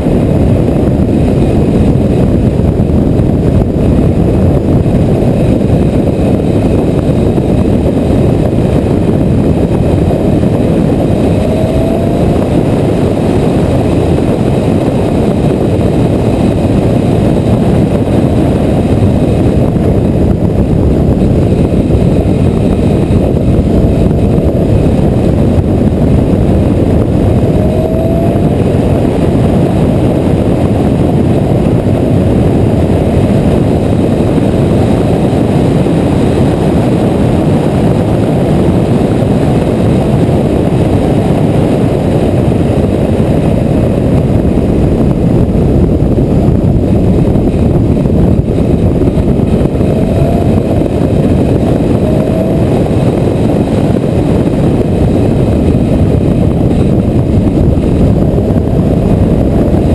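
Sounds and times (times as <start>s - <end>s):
car engine: 0.0s - 37.6s, 38.8s - 59.9s
wind and road noise: 0.0s - 59.9s.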